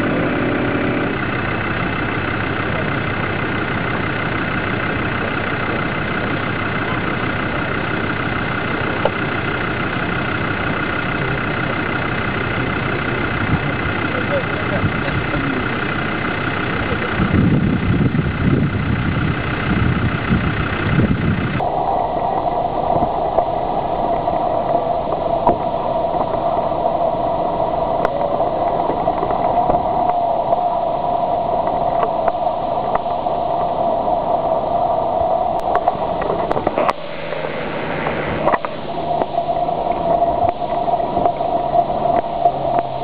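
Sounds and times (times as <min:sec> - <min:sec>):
off-road engines idling: 0:00.0 - 0:43.0
steady hum: 0:00.0 - 0:43.0.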